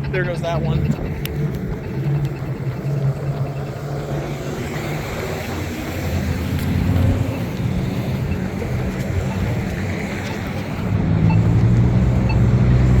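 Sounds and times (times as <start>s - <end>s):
car engines running: 0.0s - 13.0s
vehicles driving past: 0.0s - 13.0s.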